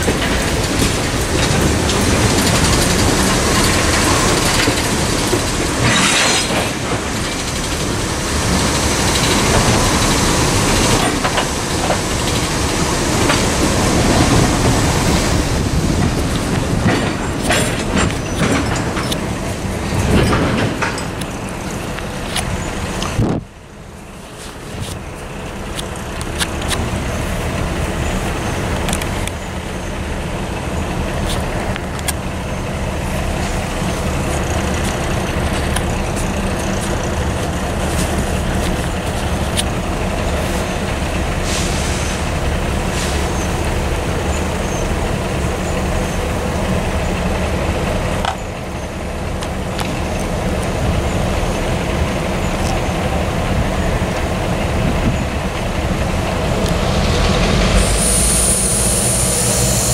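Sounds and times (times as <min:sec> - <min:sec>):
freight train rumbling: 0:00.0 - 0:59.9.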